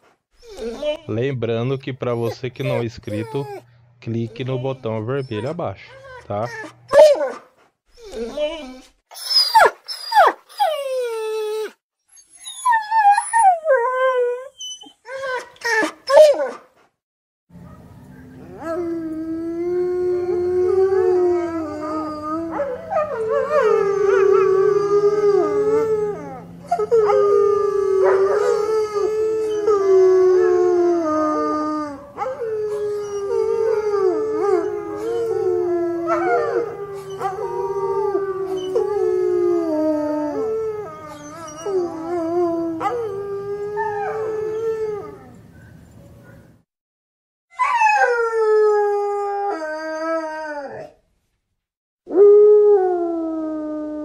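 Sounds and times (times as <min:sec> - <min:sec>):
dog howling and whining: 0:00.4 - 0:01.0, 0:02.2 - 0:07.4, 0:08.0 - 0:16.6, 0:17.6 - 0:46.4, 0:47.5 - 0:51.0, 0:52.1 - 0:54.0.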